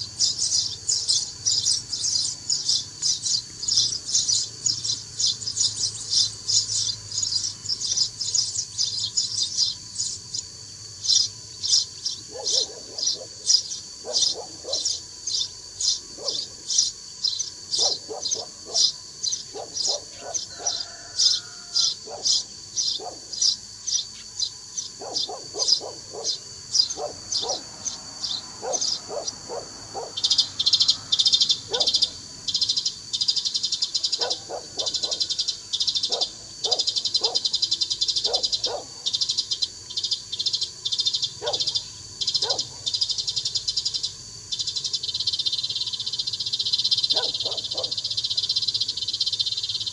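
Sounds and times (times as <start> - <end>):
lower irregular chirps: 0.0 - 49.9.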